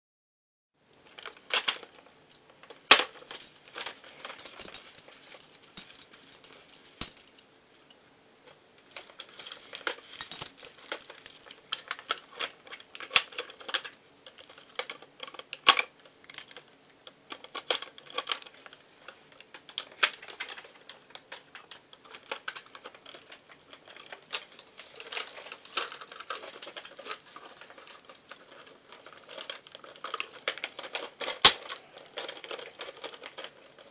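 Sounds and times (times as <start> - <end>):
plastic toy clicks and rattles: 1.0 - 7.4, 8.9 - 33.9.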